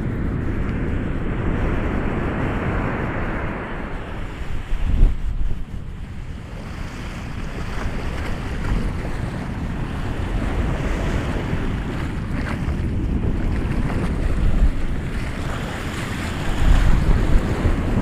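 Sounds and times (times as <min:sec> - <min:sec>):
ocean waves breaking on shore: 0:00.0 - 0:18.0
wind buffeting microphone: 0:00.0 - 0:18.0.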